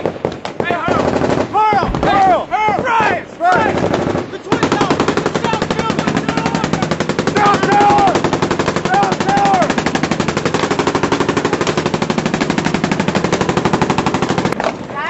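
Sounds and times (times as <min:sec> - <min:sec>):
machine gun fire: 0:00.0 - 0:14.6.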